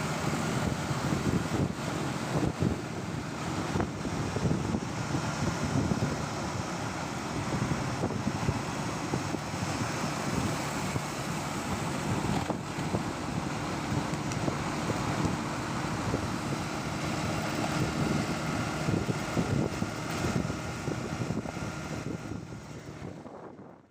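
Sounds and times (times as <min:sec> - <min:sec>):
motorbike engine: 0:00.0 - 0:23.2
traffic noise: 0:00.0 - 0:23.9
wind rushing over microphone: 0:00.0 - 0:23.9.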